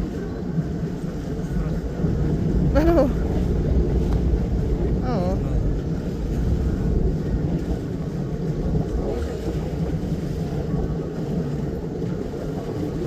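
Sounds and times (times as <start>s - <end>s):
boat engine rumbling: 0.0s - 13.0s
wind noise on microphone: 0.0s - 13.0s.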